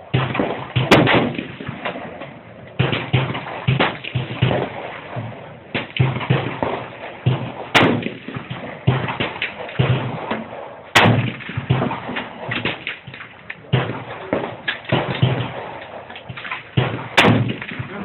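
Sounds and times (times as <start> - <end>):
loud gunshots: 0.0 - 18.0.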